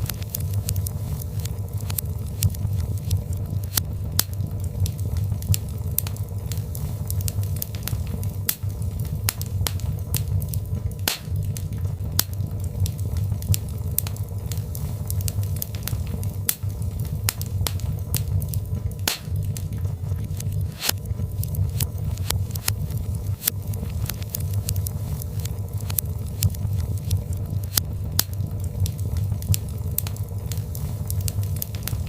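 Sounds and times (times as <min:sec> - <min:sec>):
fire crackling and popping: 0:00.0 - 0:32.0
low rumble of flames: 0:00.0 - 0:32.0.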